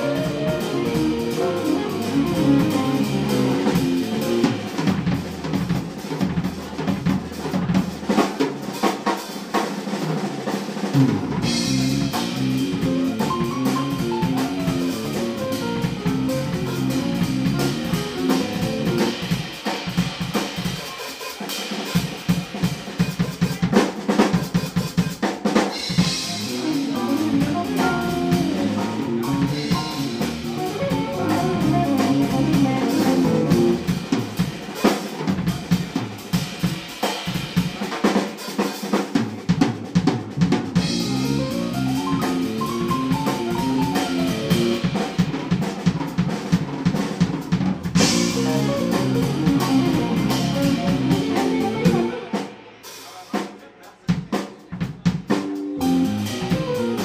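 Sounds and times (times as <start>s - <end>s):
drum kit: 0.0s - 57.0s
jazz-rock band playing: 0.0s - 57.0s.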